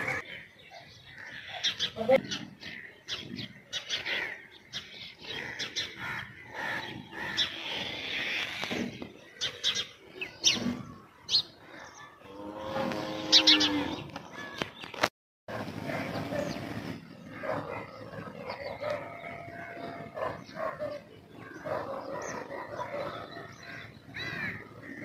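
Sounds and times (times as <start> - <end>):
drawn-out farm animal call: 0.0 - 14.7, 15.6 - 25.0
birds chirping: 0.0 - 25.0.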